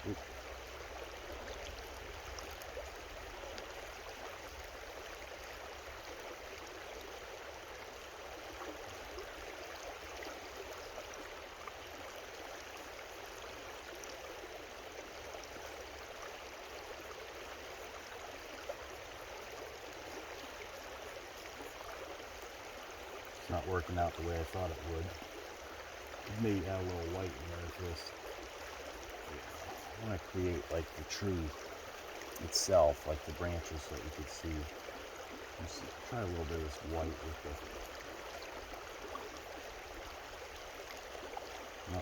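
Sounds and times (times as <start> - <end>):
creek water babbling: 0.0 - 42.0.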